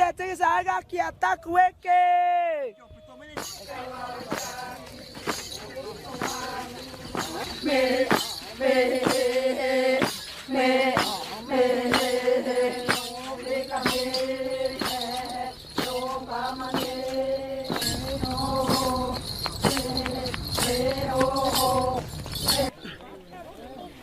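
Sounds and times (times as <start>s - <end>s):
chanting in long notes: 3.4s - 22.8s.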